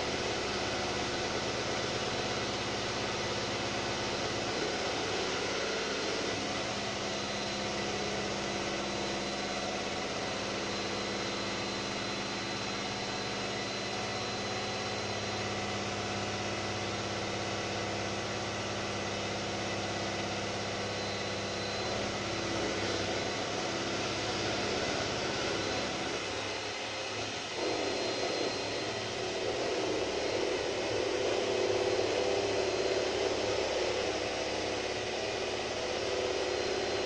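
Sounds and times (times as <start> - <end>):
electric mixer motor hum: 0.0 - 37.0.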